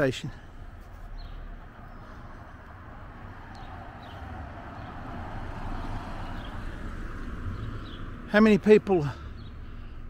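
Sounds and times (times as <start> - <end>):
road traffic hum: 0.0 - 10.0.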